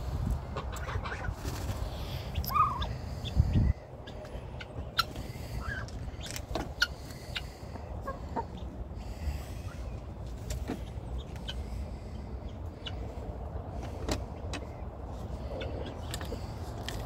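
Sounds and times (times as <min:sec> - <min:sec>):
chickens clucking: 0:00.0 - 0:17.0
steady low rumble: 0:00.0 - 0:17.0.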